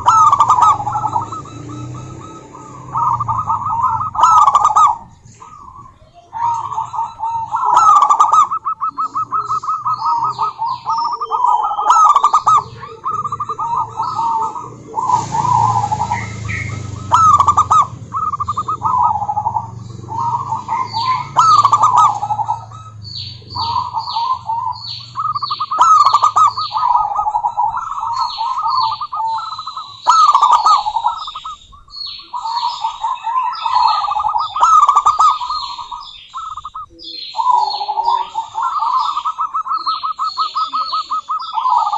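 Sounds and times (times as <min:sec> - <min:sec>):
dove cooing: 0:00.0 - 0:41.9
high bird chirps: 0:00.0 - 0:41.9.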